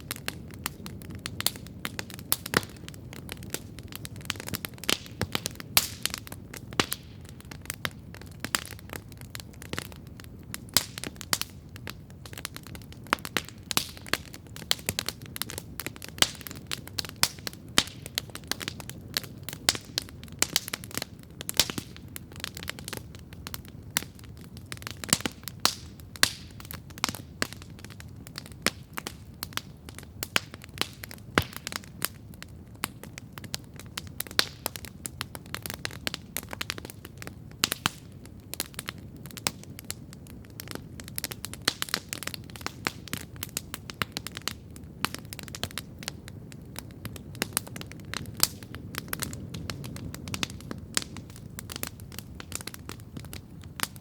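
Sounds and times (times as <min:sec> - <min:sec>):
campfire pops and snaps: 0:00.0 - 0:54.0
low rumble of flames: 0:00.0 - 0:54.0.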